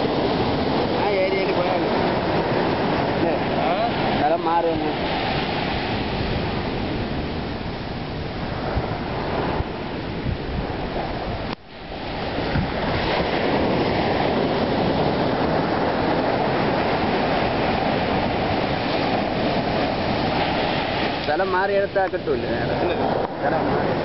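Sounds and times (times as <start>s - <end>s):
sea surf: 0.0s - 24.0s
wind on microphone: 0.0s - 24.0s.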